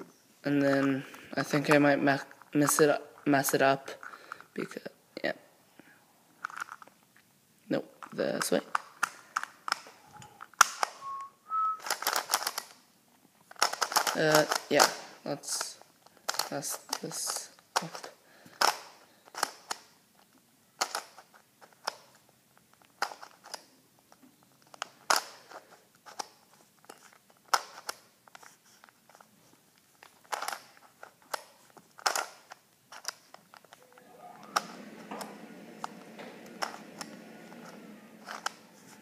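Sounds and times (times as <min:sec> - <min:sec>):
puzzle cube clicking: 0:00.6 - 0:04.5, 0:08.0 - 0:12.8, 0:13.5 - 0:22.2, 0:22.8 - 0:23.7, 0:24.6 - 0:29.2, 0:30.0 - 0:33.8, 0:34.4 - 0:39.0.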